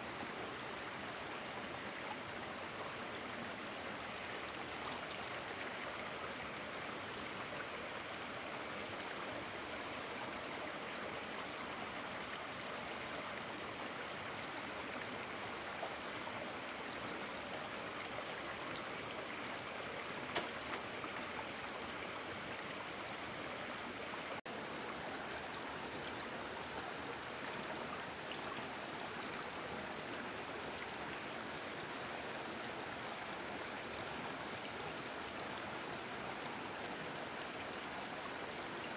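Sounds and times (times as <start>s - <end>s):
flowing stream: 0.0s - 38.9s.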